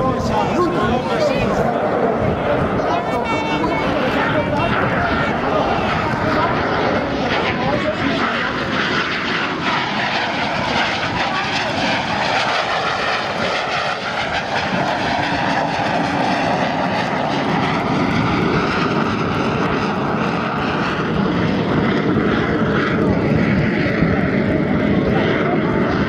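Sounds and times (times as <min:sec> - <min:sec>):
jet aircraft flying past: 0:00.0 - 0:26.0.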